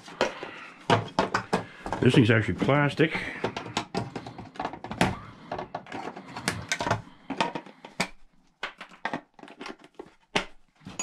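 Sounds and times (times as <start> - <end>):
plastic cover clicks and knocks: 0.1 - 2.3, 3.2 - 10.6.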